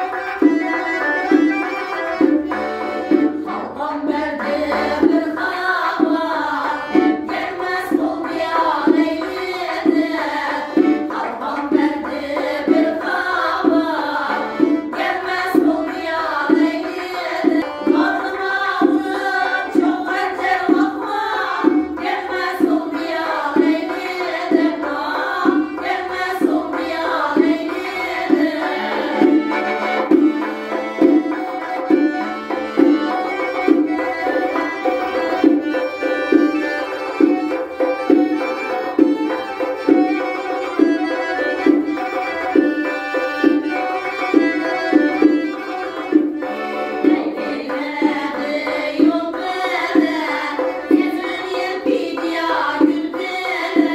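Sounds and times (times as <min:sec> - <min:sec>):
accordion: 0:00.0 - 0:53.9.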